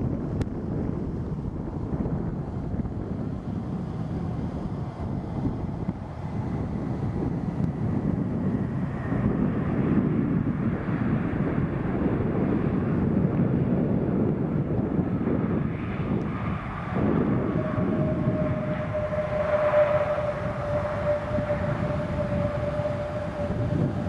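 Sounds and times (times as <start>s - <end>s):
high engine whine: 0.0s - 24.0s
jet engine roar: 0.0s - 24.0s
wind buffeting microphone: 0.0s - 24.0s.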